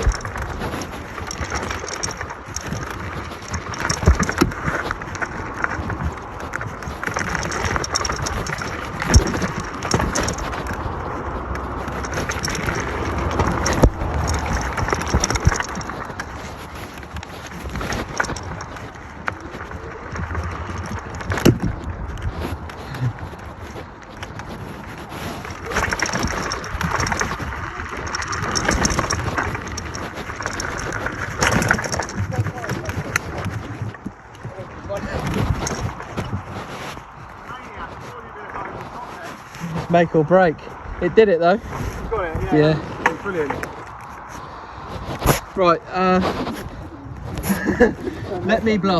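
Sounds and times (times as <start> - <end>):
scooter tyres and frame rattling: 0.0 - 48.9.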